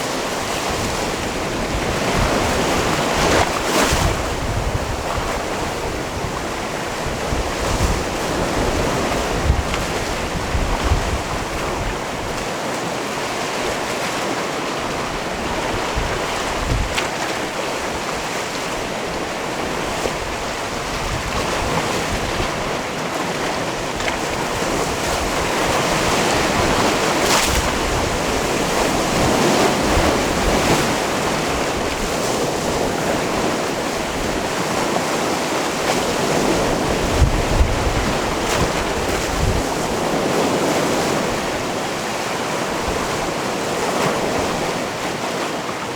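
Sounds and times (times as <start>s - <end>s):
wind buffeting microphone: 0.0s - 13.9s, 14.8s - 45.2s
waves on rocky shore: 0.0s - 45.9s.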